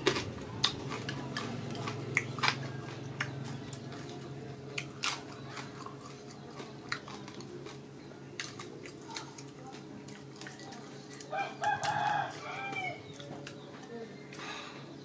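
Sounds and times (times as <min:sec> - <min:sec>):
sharp crunches and clicks: 0:00.0 - 0:14.5
chewing crispy food: 0:00.0 - 0:15.0
steady low hum: 0:00.0 - 0:15.0.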